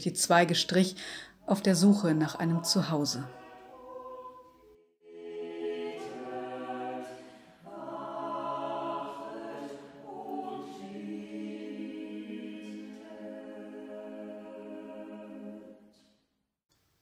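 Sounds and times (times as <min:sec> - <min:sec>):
choir singing sustained chords: 0:01.4 - 0:16.1.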